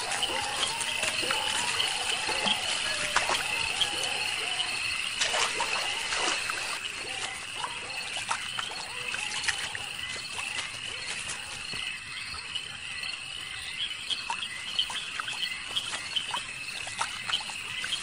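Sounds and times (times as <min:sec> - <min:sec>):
night insect chorus: 0:00.0 - 0:18.0
water trickling and splashing: 0:00.0 - 0:18.0.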